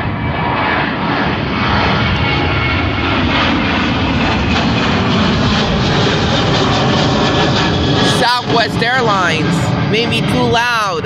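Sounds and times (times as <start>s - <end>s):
jet airliner engines at takeoff: 0.0s - 11.0s.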